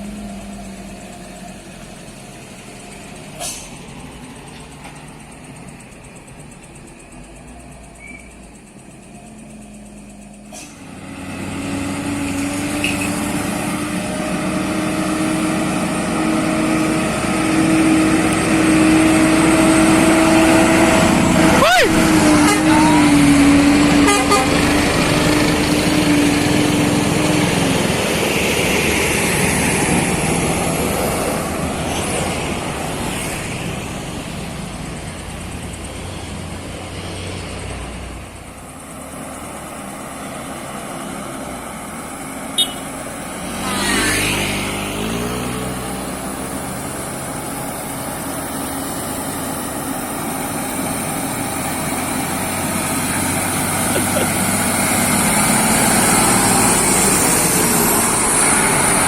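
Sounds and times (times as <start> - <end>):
engine climbing in pitch: 0.0 - 59.0
traffic passing: 0.0 - 59.0.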